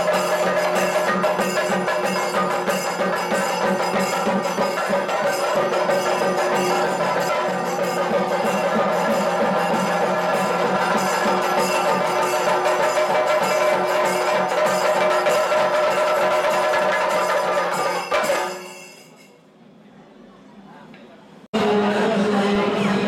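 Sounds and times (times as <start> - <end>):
music with percussion: 0.0 - 19.4.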